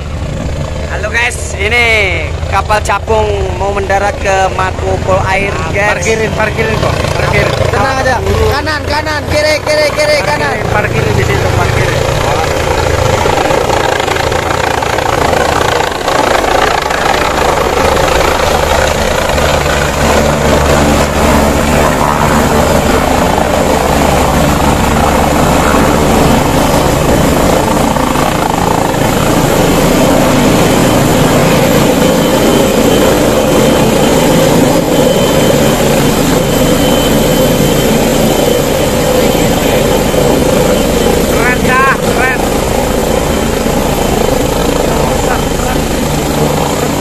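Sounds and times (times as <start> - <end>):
helicopter rotor and engine: 0.0 - 47.0.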